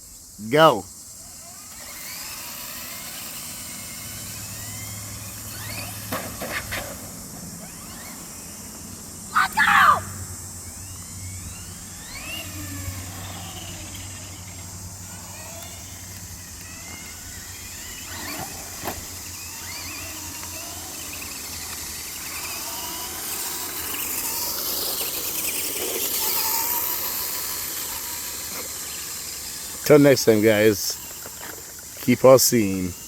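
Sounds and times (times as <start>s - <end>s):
electric motors whining: 0.2s - 33.0s.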